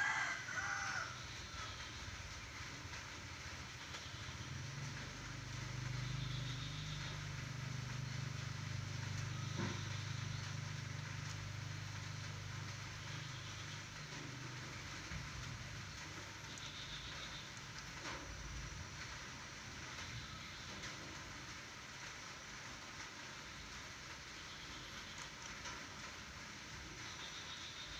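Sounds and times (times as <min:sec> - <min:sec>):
vehicle engine humming low: 0:00.0 - 0:27.9.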